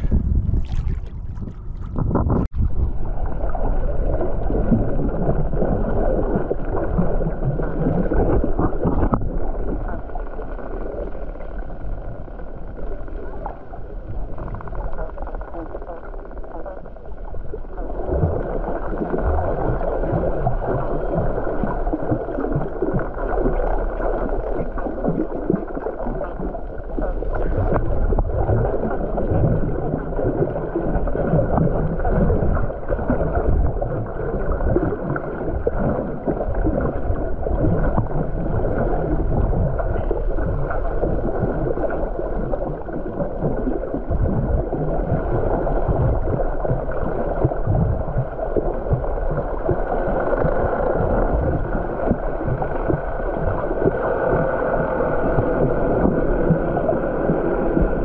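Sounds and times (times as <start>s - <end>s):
underwater rush and gurgle: 0.0s - 58.0s.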